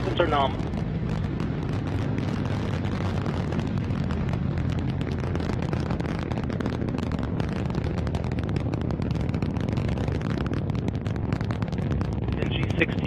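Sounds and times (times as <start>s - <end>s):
rocket engines rumbling and crackling: 0.0s - 13.0s.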